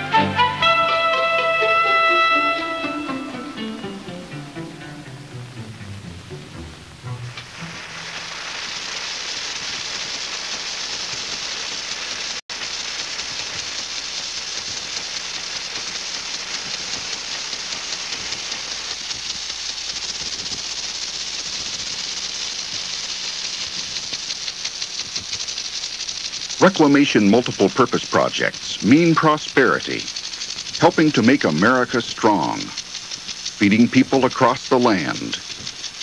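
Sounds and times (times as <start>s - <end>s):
sprinklers spraying water: 0.4s - 36.0s.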